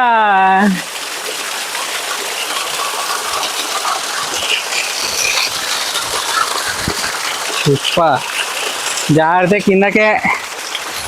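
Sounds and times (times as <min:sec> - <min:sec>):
water splashing over rocks: 0:00.0 - 0:11.0.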